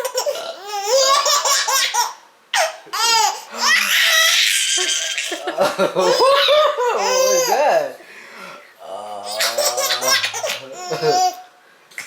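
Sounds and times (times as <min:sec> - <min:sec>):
baby laughing: 0:00.0 - 0:07.8, 0:09.3 - 0:11.5.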